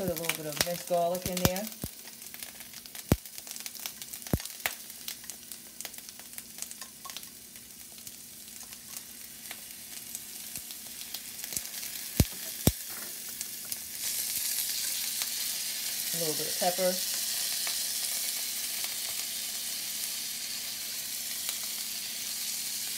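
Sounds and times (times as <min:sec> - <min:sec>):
vegetables sizzling in oil: 0:00.0 - 0:22.9.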